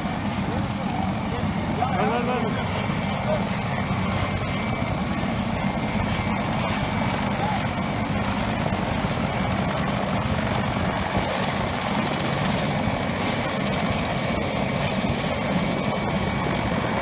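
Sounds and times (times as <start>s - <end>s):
helicopter rotor chop and engine: 0.0s - 17.0s.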